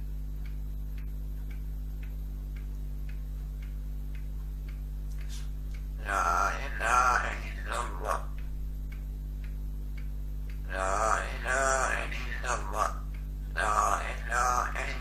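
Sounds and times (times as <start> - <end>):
light regular ticking: 0.0 - 15.0
steady low hum: 0.0 - 15.0.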